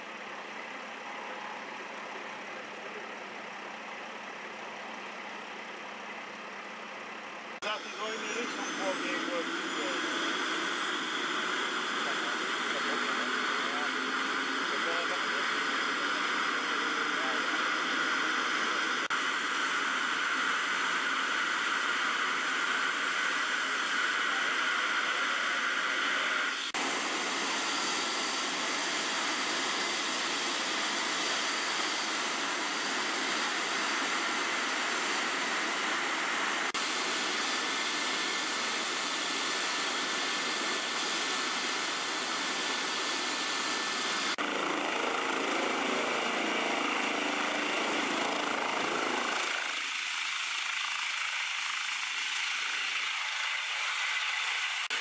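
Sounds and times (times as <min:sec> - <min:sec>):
turbine whine: 0:00.0 - 0:55.0
helicopter rotor rushing: 0:02.3 - 0:55.0.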